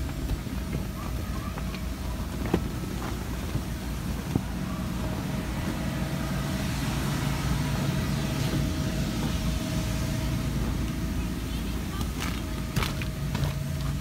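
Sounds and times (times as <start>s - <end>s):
electric air blower running: 0.0s - 14.0s.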